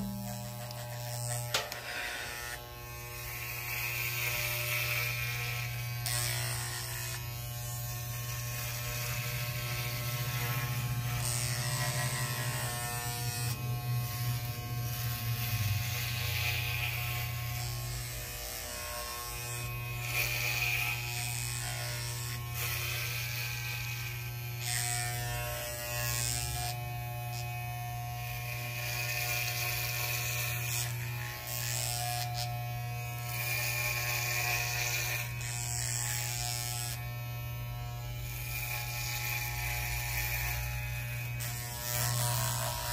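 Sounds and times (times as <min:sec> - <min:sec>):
clipper blades rasping through hair: 0:00.0 - 0:42.9
electric hair clippers buzzing: 0:00.0 - 0:42.9.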